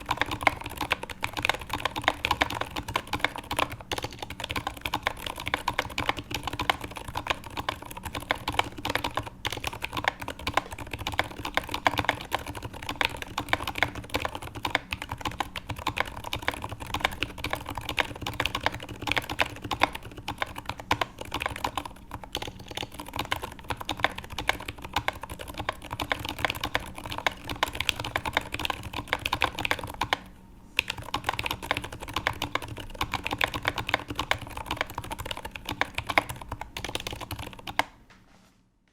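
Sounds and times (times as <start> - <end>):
fast typing on mechanical keyboard: 0.0 - 37.9.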